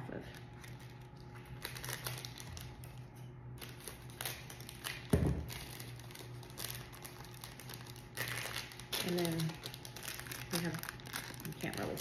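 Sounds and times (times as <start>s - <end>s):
plastic packets clicking and rustling: 0.3s - 12.0s.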